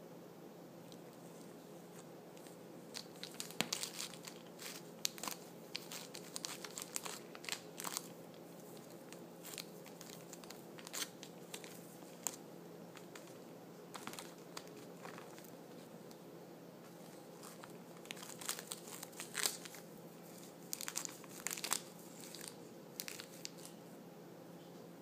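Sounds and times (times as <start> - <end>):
plastic wrapper crinkling: 2.4 - 15.9, 16.9 - 23.8.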